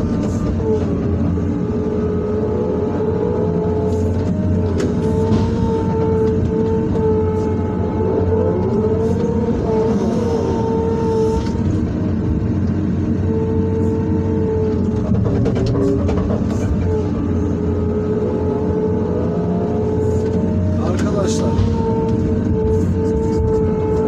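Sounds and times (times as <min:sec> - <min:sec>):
excavator engine drone: 0:00.0 - 0:24.0
hydraulic whine: 0:00.0 - 0:24.0.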